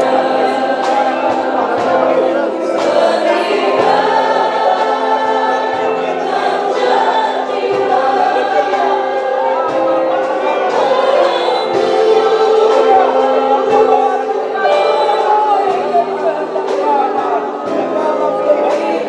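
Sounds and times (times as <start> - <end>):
band accompaniment with beat: 0.0 - 19.0
choir singing worship song: 0.0 - 19.0.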